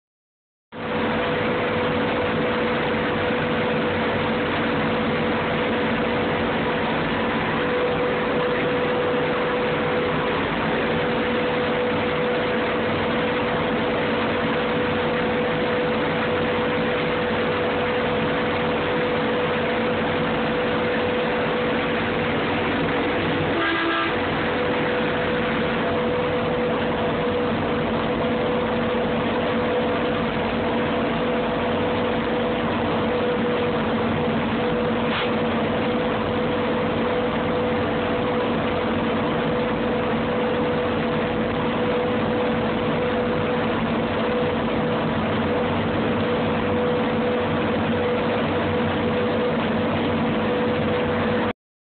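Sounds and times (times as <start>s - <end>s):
diesel engine running: 0.7s - 51.5s.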